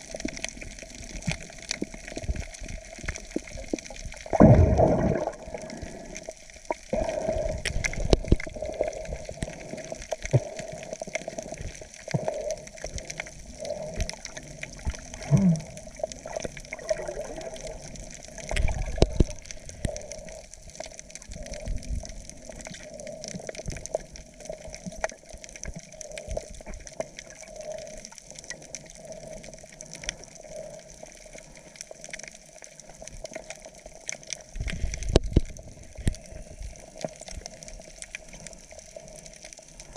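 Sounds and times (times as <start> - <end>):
faint steady hum: 0.0 - 39.9
muffled underwater sloshing and bubbling: 0.0 - 39.9.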